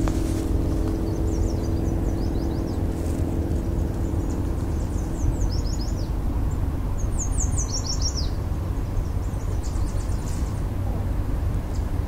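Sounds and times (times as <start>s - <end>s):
songbird chirping: 0.0s - 11.0s
steady low rumble: 0.0s - 12.0s.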